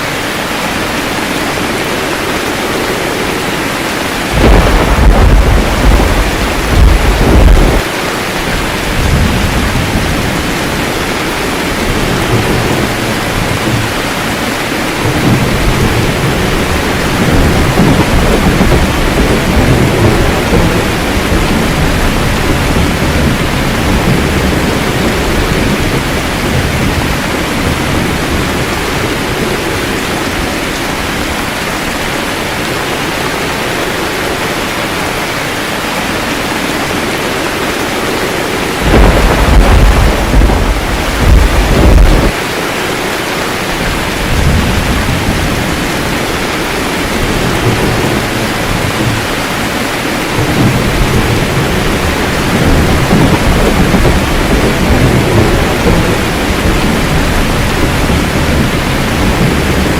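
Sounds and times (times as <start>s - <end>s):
heavy rain: 0.0s - 59.9s
thunder rumbling: 0.2s - 59.9s.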